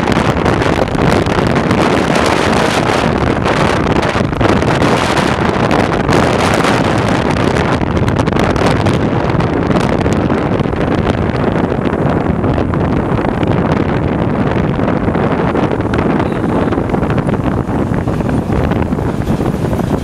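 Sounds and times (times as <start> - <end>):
road noise: 0.0 - 20.0
surrounding traffic: 0.0 - 20.0
wind rushing over microphone: 0.0 - 20.0.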